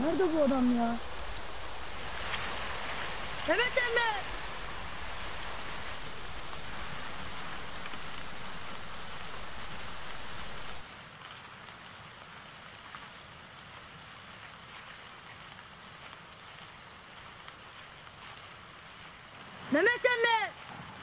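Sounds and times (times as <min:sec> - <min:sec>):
outdoor hiss: 0:00.0 - 0:21.0
soft crackles: 0:00.0 - 0:21.0.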